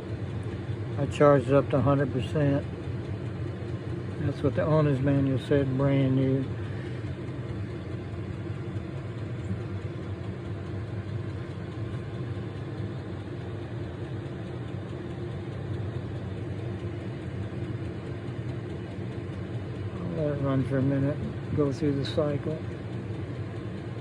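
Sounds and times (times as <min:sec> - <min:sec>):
air heater fan humming: 0:00.0 - 0:24.0.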